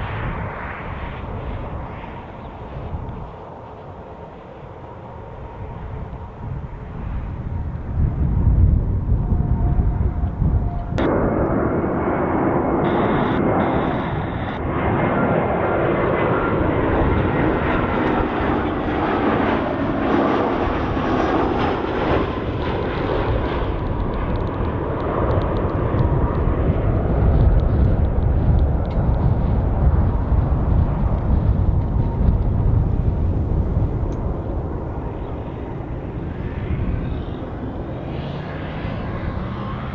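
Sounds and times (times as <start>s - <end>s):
jet engine noise with high whine: 0.0s - 39.9s
low jet rumble: 0.0s - 39.9s.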